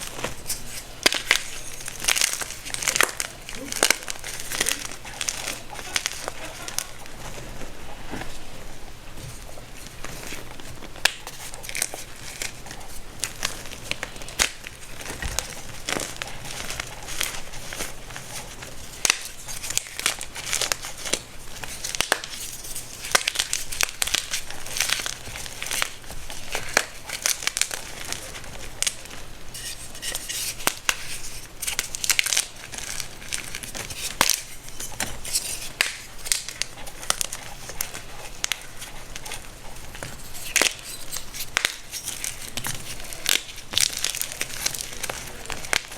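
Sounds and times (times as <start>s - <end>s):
baking soda crunching: 0.0s - 45.9s.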